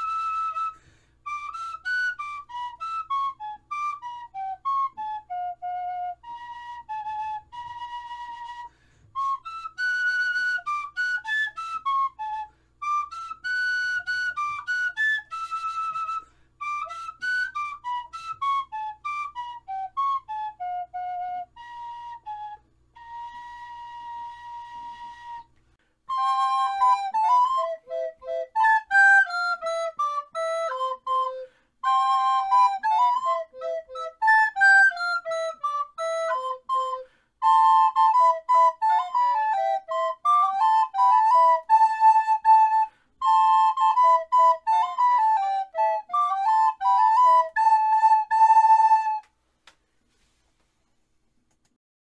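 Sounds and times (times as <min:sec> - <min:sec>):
held flute note: 0:00.0 - 0:49.4
folk tune on flutes: 0:00.0 - 0:49.5.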